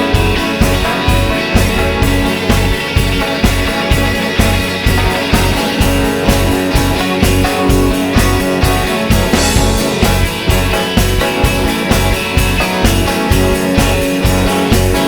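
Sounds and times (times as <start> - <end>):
guitar: 0.0 - 15.0
live rock band playing: 0.0 - 15.0.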